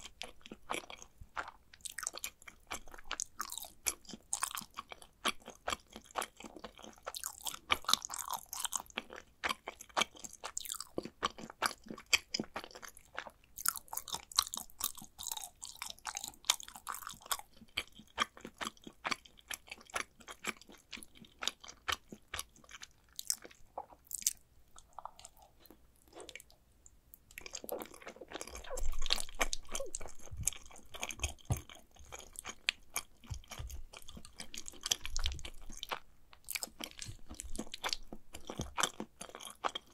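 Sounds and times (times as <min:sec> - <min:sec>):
close-miked chewing: 0:00.0 - 0:39.9.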